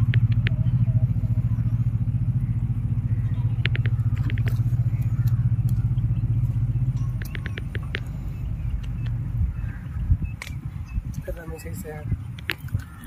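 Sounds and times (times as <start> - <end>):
low pulsing engine drone: 0.0 - 13.0.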